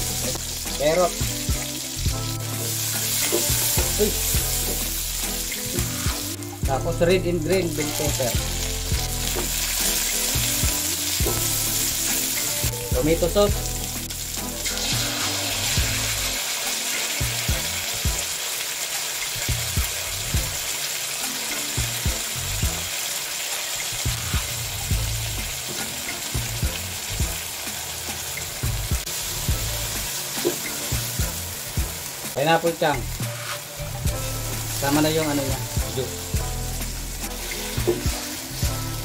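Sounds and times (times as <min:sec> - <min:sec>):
vegetables sizzling in a wok: 0:00.0 - 0:39.0.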